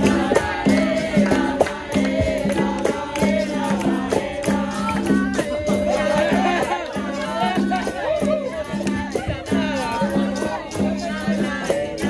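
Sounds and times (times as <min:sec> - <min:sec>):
pandeiro rhythm: 0:00.0 - 0:12.0
voices singing together: 0:00.0 - 0:12.0.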